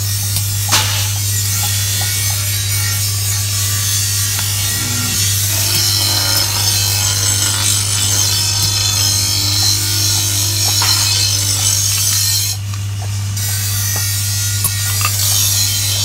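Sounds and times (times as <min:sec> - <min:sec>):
drill bit grinding through metal: 0:01.5 - 0:16.0
electric motor humming: 0:01.6 - 0:16.0.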